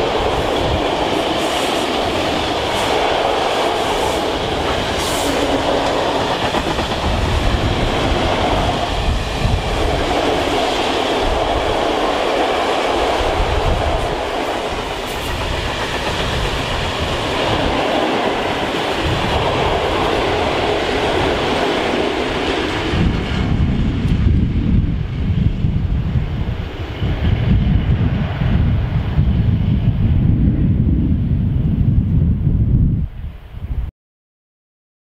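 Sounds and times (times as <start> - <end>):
freight train wheels rumbling: 0.0 - 32.4.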